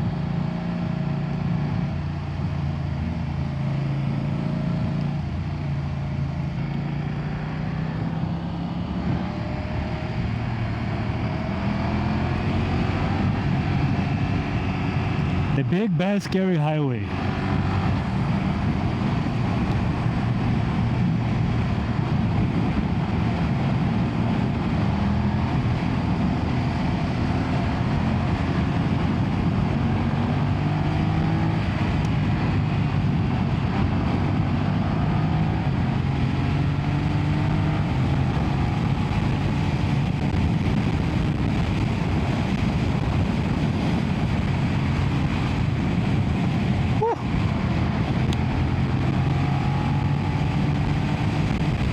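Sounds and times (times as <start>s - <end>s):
motorcycle engine at speed: 0.0s - 15.9s, 16.7s - 51.9s
wind noise: 8.9s - 16.2s, 17.1s - 51.9s.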